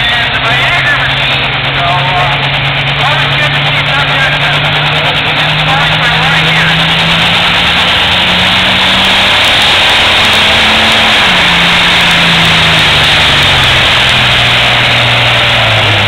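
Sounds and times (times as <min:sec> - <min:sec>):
tractor engine running under load: 0:00.0 - 0:16.0.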